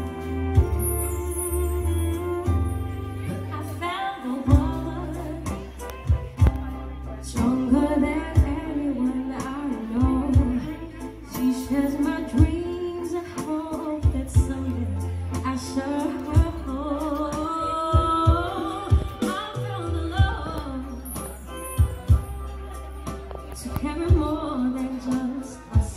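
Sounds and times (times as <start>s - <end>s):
acoustic guitar: 0.0s - 25.9s
low bass notes: 0.0s - 25.9s
violin: 0.0s - 25.9s
woman singing: 3.2s - 25.9s.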